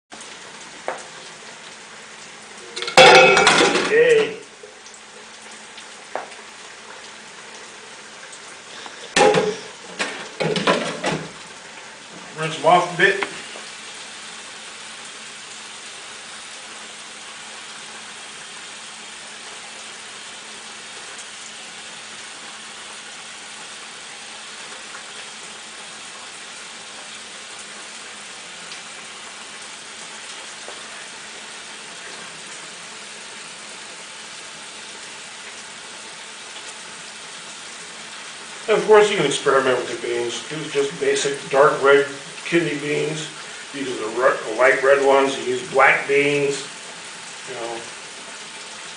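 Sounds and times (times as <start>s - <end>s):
tap water pouring over beans: 0.2s - 48.9s.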